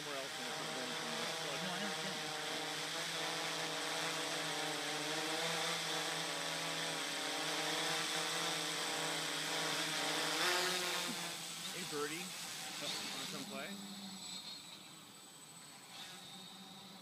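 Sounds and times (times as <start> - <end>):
drone propeller buzz: 0.0 - 17.0.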